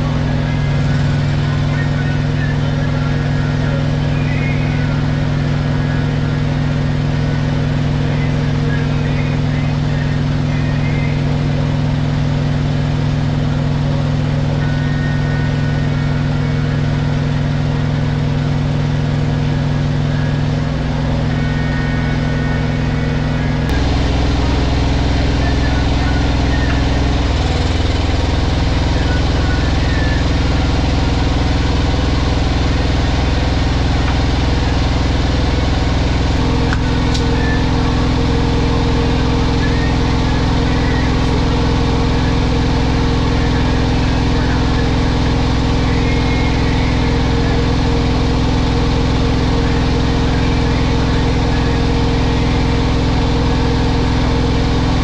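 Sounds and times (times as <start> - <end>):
diesel truck engines idling: 0.0 - 55.0.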